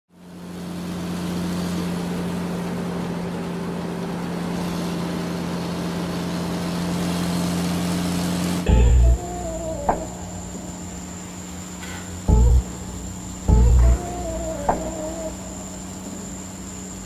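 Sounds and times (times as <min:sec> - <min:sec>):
road noise: 0:00.2 - 0:17.0
truck engine drone: 0:00.2 - 0:17.0.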